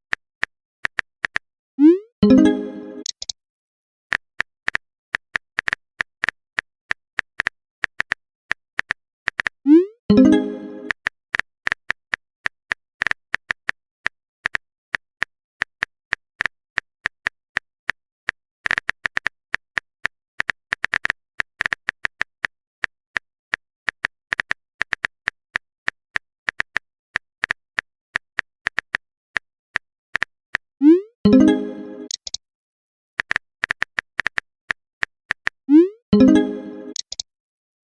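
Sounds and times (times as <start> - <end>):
keyboard typing: 0.1 - 3.4, 4.1 - 32.4, 33.2 - 37.3.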